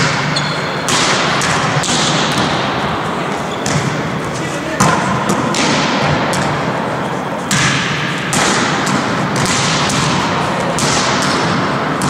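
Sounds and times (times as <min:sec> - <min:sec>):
volleyball smacks echoing in hall: 0:00.0 - 0:12.0.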